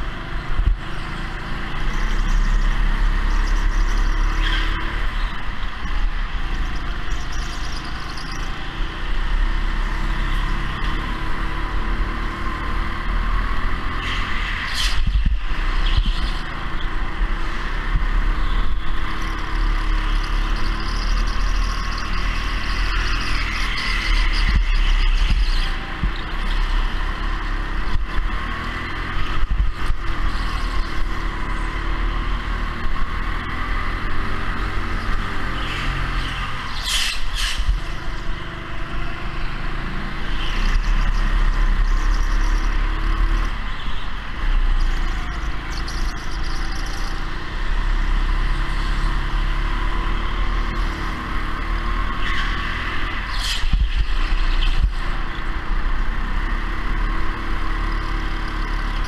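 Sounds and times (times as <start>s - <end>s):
go-kart engine: 0.0s - 59.0s.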